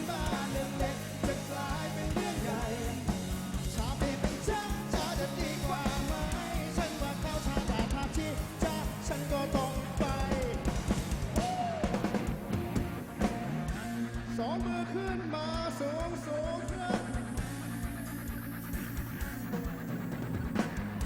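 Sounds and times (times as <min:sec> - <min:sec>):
fast driving drum beat: 0:00.0 - 0:21.0
rock band playing live: 0:00.0 - 0:21.0.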